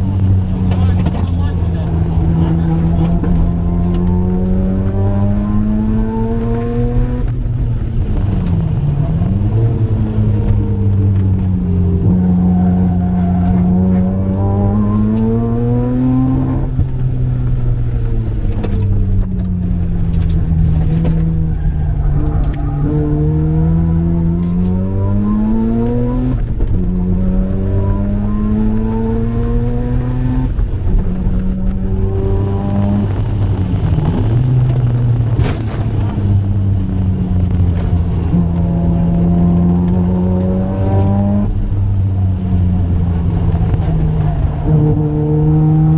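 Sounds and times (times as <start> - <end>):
rotary engine revving: 0.0 - 17.2, 18.0 - 45.9.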